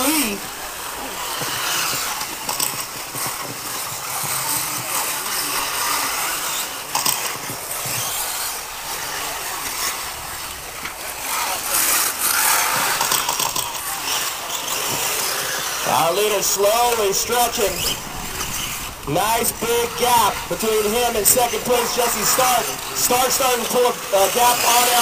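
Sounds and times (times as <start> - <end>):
electric motors and tyres hissing: 0.0 - 25.0.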